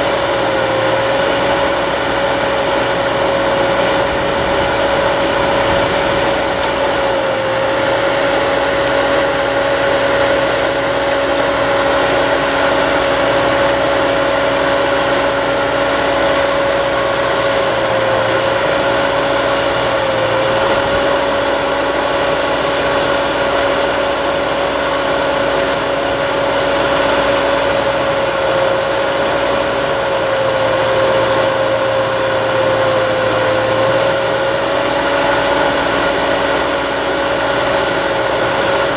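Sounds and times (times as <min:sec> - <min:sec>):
steady whining tone: 0:00.0 - 0:38.9
tractor engine running: 0:00.0 - 0:38.9.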